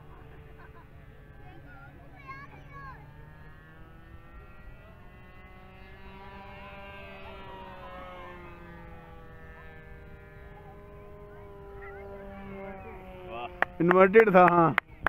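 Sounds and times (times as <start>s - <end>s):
model plane engine buzzing drone: 0.0s - 15.0s.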